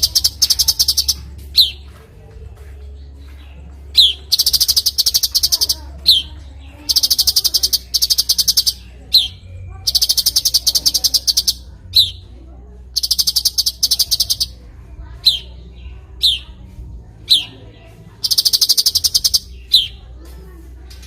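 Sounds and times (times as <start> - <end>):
bird buzzy trills: 0.0 - 1.9, 3.8 - 12.3, 12.9 - 20.2
bird sharp chirps: 0.0 - 2.0, 3.2 - 12.3, 12.9 - 20.2.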